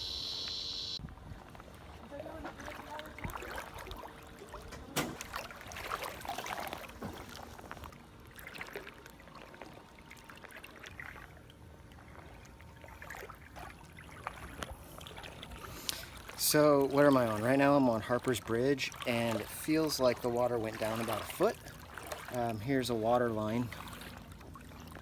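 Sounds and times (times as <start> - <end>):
water splashing from wading: 1.4 - 25.0.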